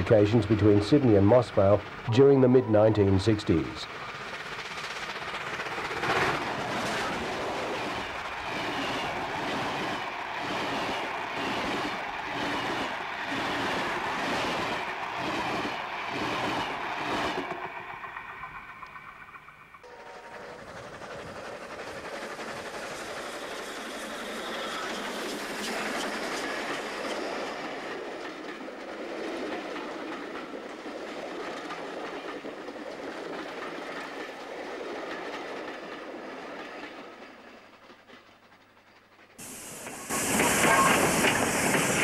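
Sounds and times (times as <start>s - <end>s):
steam train running past: 0.0s - 42.0s.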